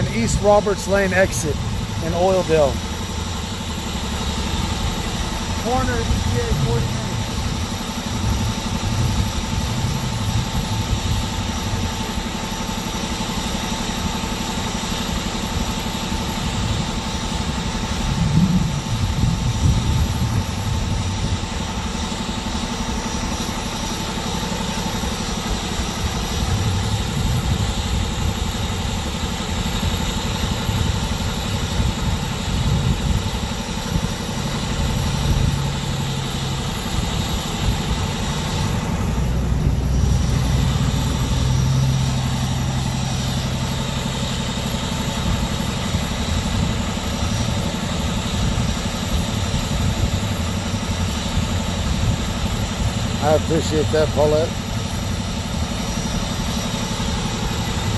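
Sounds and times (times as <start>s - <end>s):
vehicle engine idling: 0.0s - 57.9s.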